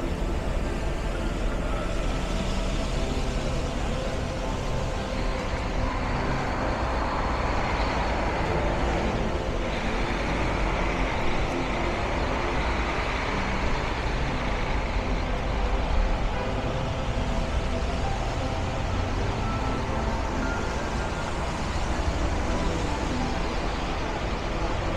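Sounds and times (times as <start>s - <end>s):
traffic on a wet street: 0.0s - 24.9s.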